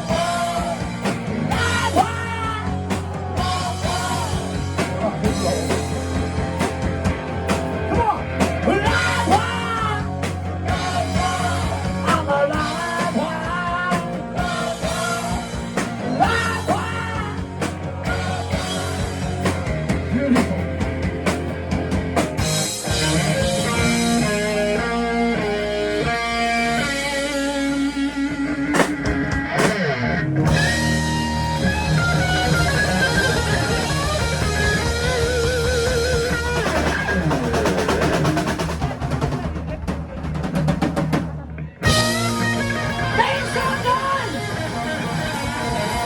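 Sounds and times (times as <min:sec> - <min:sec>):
lead electric guitar: 0:00.0 - 0:40.3, 0:41.1 - 0:46.0
bass guitar: 0:00.0 - 0:46.0
drums: 0:00.0 - 0:46.0.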